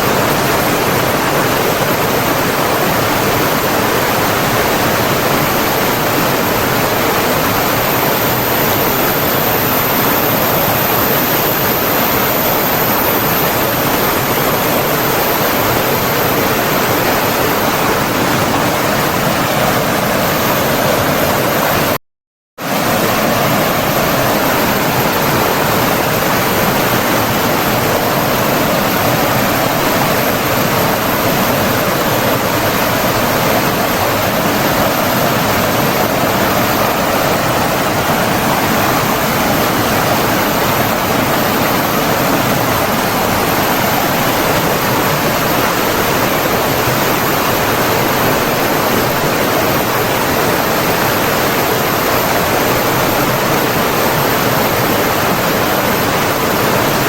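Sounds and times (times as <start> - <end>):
water rushing: 0.0 - 22.0, 22.6 - 57.0.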